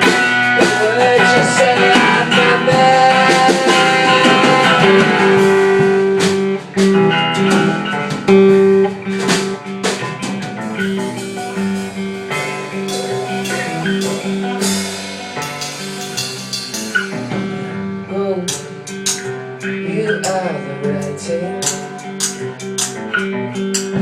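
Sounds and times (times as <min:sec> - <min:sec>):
light drums: 0:00.0 - 0:24.0
rock guitar: 0:00.0 - 0:24.0.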